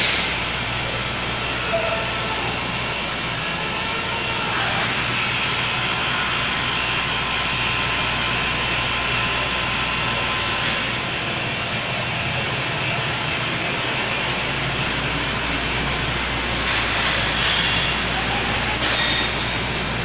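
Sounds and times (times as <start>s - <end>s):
glass edging machine running: 0.0s - 20.0s.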